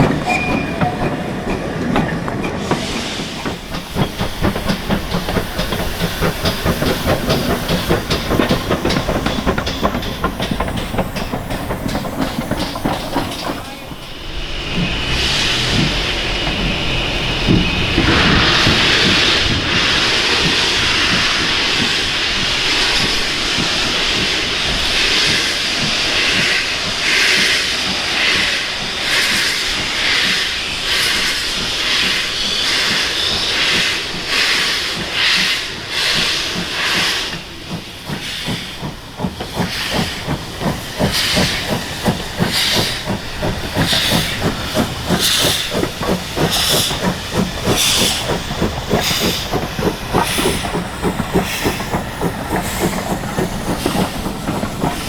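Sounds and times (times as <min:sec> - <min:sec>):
steam hissing: 0:00.0 - 0:55.0
steam locomotive exhaust beats: 0:00.0 - 0:55.0.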